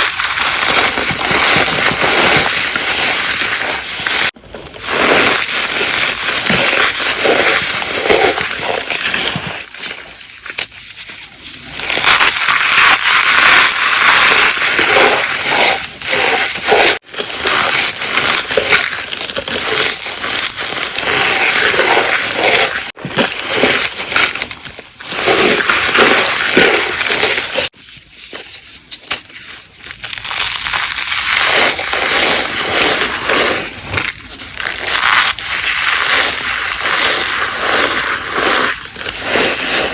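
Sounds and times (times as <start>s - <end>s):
chalk crunching by hand: 0.0s - 39.9s.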